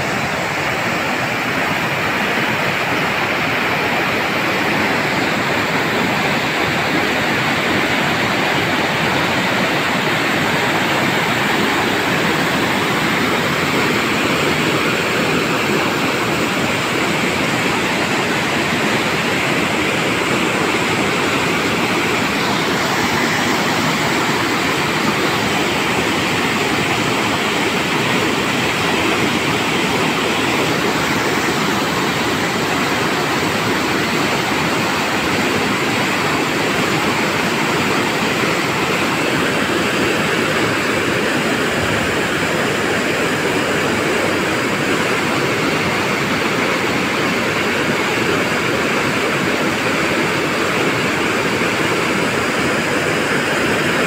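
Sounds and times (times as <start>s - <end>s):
floodwater pouring over weir: 0.0s - 54.0s.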